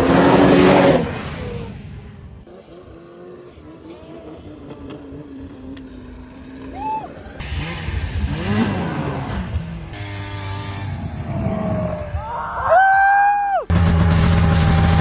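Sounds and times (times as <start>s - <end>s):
engine revving: 0.0s - 12.2s, 13.7s - 15.0s.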